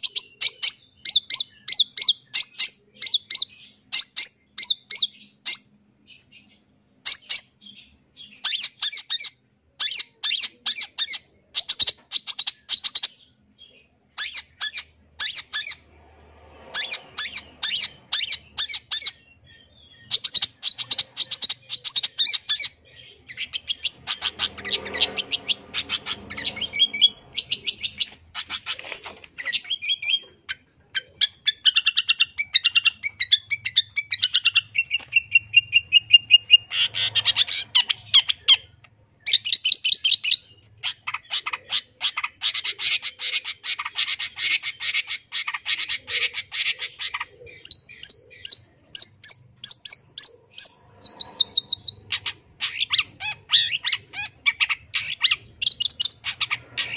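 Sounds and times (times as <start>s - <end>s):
shrike singing rapid chirps: 0.0s - 56.9s.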